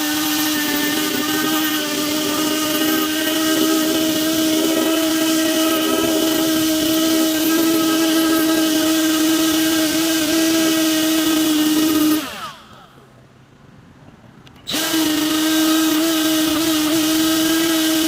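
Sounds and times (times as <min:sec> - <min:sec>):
electric drill running: 0:00.0 - 0:13.0, 0:14.7 - 0:18.0.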